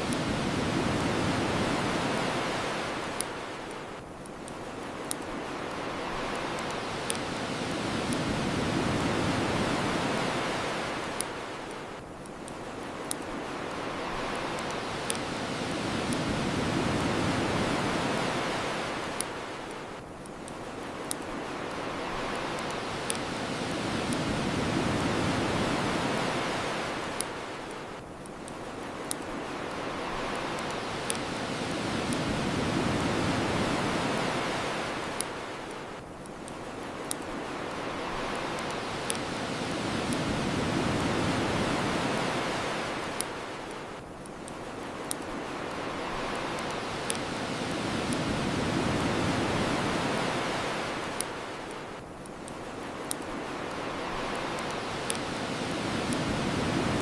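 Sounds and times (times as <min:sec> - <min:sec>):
ocean surf washing onto shore: 0:00.0 - 0:57.0
wood fire crackling and popping: 0:00.1 - 0:57.0.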